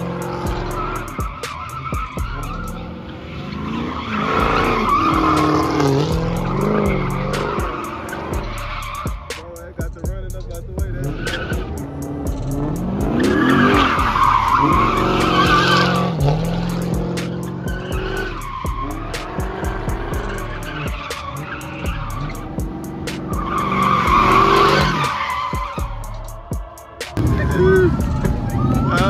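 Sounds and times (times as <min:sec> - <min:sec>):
tyres squealing: 0:00.0 - 0:10.0, 0:10.6 - 0:29.0
car engine revving: 0:00.0 - 0:29.0.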